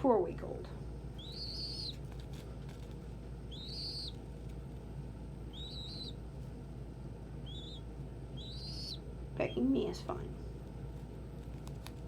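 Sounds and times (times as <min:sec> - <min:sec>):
young pigeon peeping: 0:00.8 - 0:12.0.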